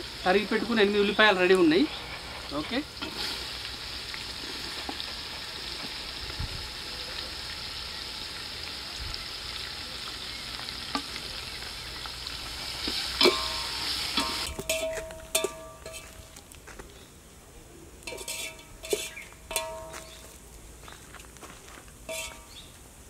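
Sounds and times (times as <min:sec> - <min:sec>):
onions sizzling in hot oil: 0:00.0 - 0:16.6, 0:18.0 - 0:20.9, 0:21.9 - 0:23.0.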